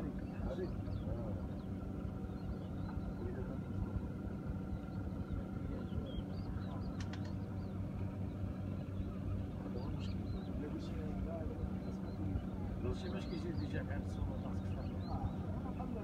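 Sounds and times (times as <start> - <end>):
low motor drone: 0.0 - 16.0.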